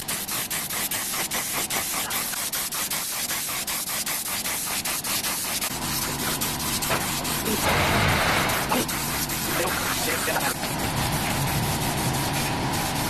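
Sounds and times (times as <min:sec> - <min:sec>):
hand rubbing a surface: 0:00.0 - 0:13.0.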